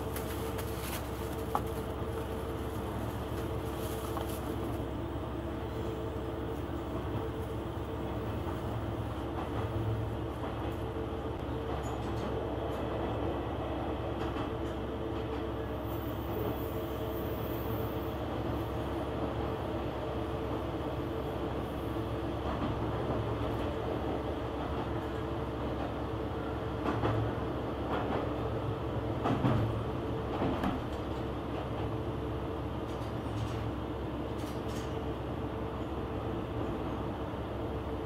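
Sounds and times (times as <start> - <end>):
railcar engine drone: 0.0 - 38.0.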